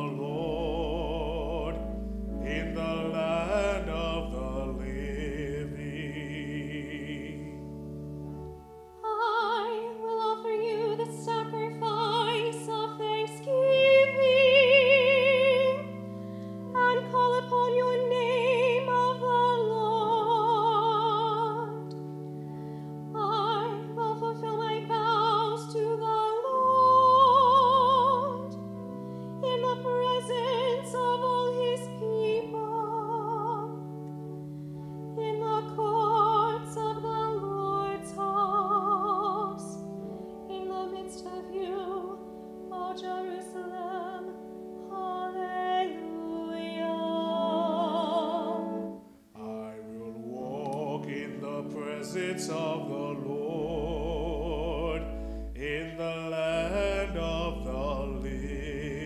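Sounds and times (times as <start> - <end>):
held keyboard chords: 0.0 - 59.0.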